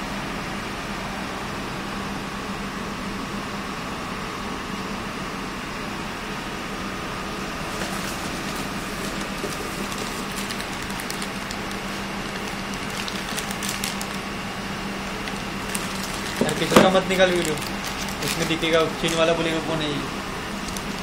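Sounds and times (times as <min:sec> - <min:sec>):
low hum with hiss: 0:00.0 - 0:21.0.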